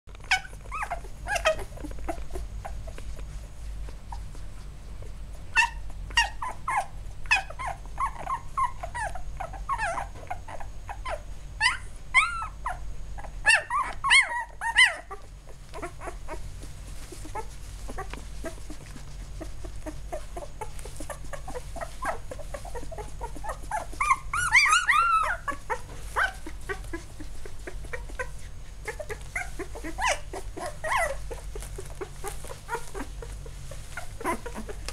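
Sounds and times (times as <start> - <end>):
puppies whimpering and squeaking: 0.1 - 34.9.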